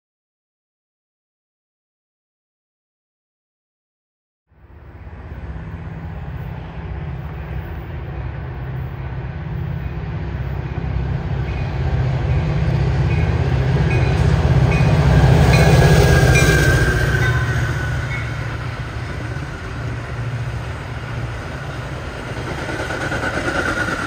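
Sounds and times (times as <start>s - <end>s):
diesel locomotive engine drone: 4.5s - 24.0s.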